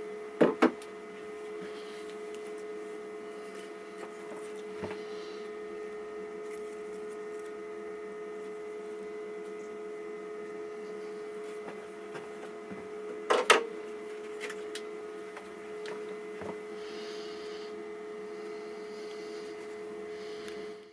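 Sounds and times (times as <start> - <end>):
steady electrical hum: 0.0 - 20.9.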